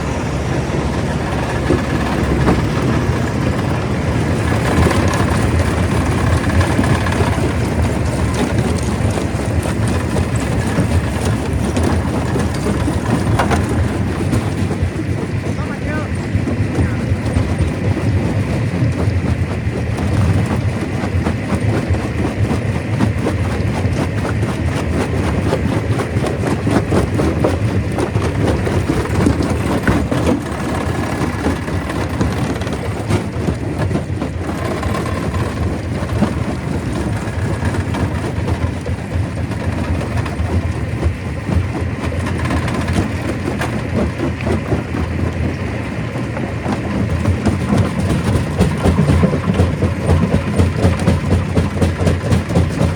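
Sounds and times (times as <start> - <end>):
stone crusher crushing rock: 0.0 - 52.9.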